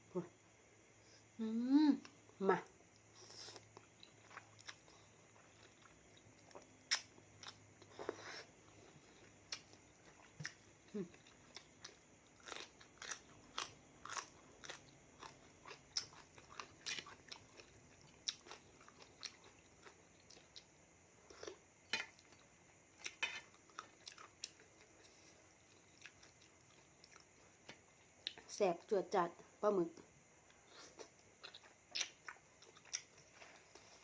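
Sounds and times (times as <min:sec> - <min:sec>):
person chewing crunchy food: 0:03.0 - 0:28.4, 0:30.5 - 0:34.0.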